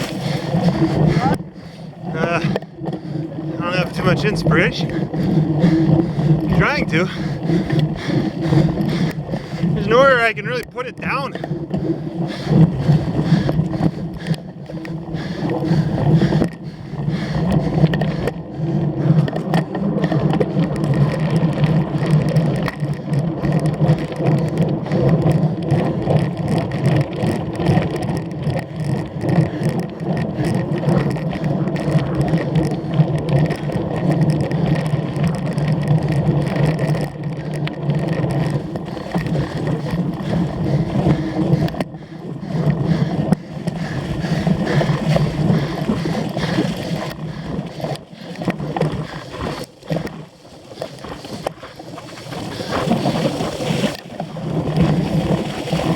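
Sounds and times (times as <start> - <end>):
bike rattling: 0.0 - 55.9
bike tyre and riding noise: 0.0 - 55.9.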